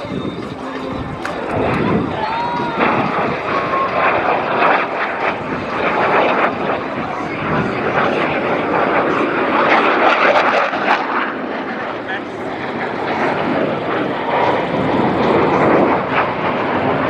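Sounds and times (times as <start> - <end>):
jet roaring past low: 0.0 - 17.0.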